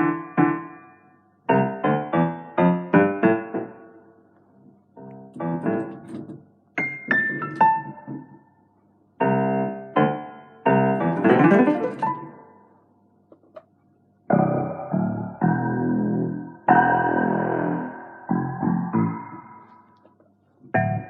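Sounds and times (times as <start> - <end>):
synthesizer piano notes and chords: 0.0 - 4.3, 5.0 - 12.8, 14.3 - 21.0.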